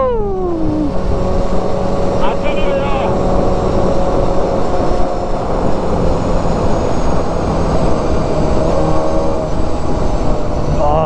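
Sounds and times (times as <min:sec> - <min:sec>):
motorcycle engine cruising: 0:00.0 - 0:11.0
road noise: 0:00.0 - 0:11.0
wind rush on microphone: 0:00.0 - 0:11.0.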